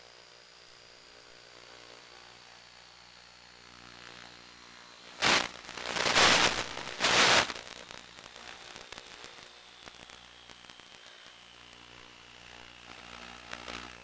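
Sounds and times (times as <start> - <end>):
electric motor whine: 0.0 - 14.0
hissing radio static: 1.4 - 14.0.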